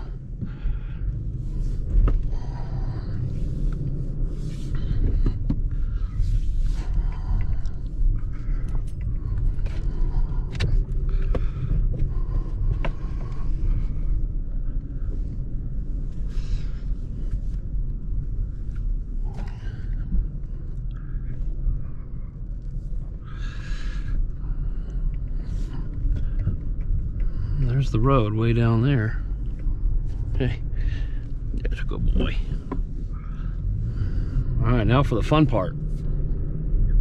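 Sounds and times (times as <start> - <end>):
low vehicle rumble: 0.0 - 37.0.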